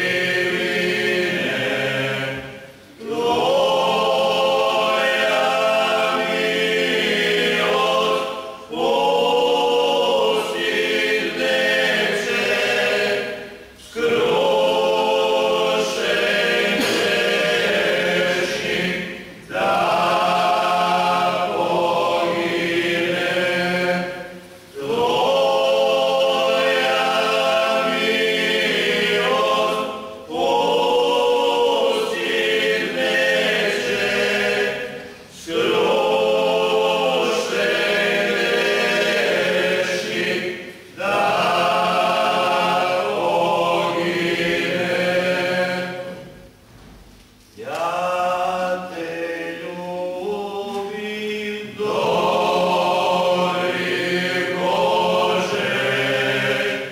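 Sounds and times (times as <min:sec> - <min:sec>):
men singing a cappella: 0:03.0 - 0:46.2, 0:47.6 - 0:56.9.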